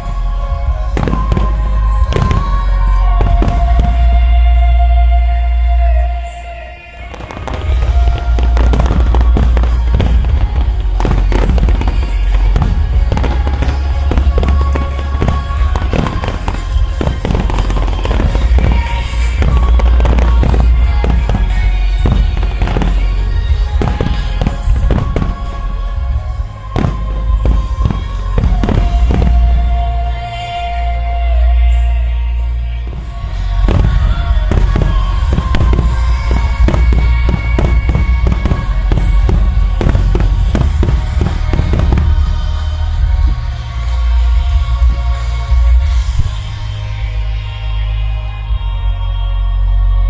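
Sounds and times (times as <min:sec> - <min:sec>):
fireworks bursting and crackling: 0:00.0 - 0:48.0
loud music: 0:00.0 - 0:50.0.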